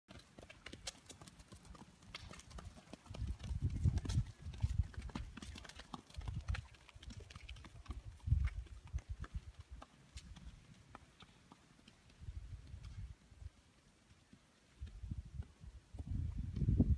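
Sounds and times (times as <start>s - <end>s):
horse hoofbeats on dirt: 0.1s - 16.9s.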